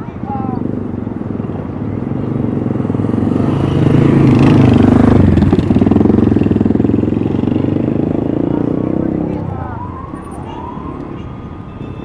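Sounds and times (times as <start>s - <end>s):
vehicle engine passing by: 0.0s - 11.7s.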